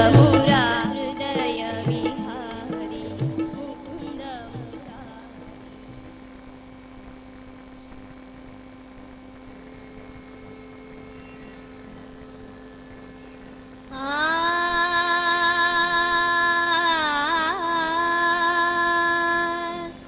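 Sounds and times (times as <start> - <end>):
devotional song with tabla: 0.0 - 6.8, 9.6 - 20.0
faint steady hum: 0.0 - 20.0.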